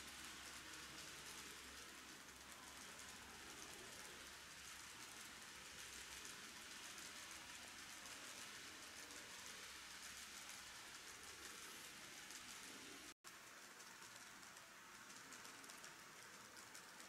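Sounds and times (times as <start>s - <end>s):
model train wheels clattering on track: 0.0s - 17.0s.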